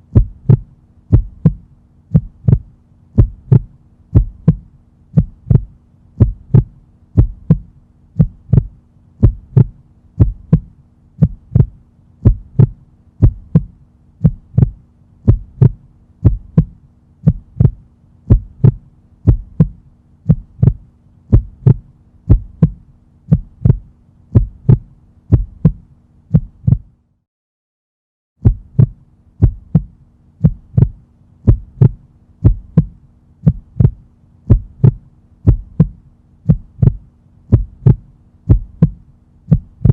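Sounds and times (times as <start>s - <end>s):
heartbeat thumps: 0.0s - 26.9s, 28.4s - 39.9s
faint hum: 0.0s - 27.2s, 28.4s - 39.9s.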